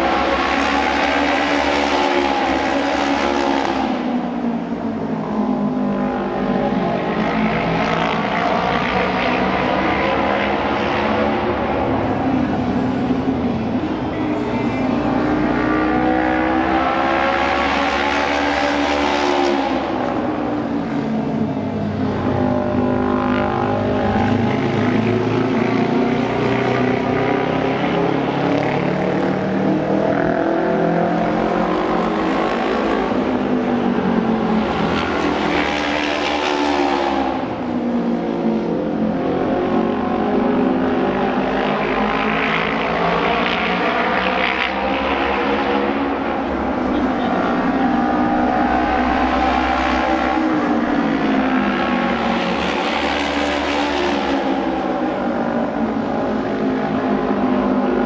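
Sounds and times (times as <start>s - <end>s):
motorcycle engines racing: 0.0s - 58.0s.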